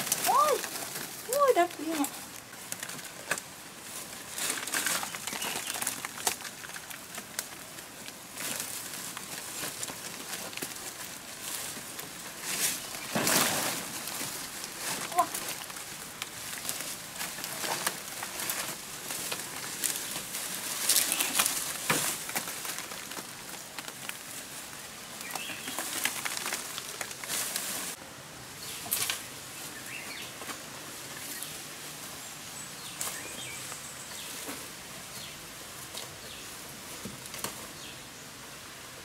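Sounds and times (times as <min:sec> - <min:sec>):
undergrowth rustling and crackling: 0:00.0 - 0:38.8.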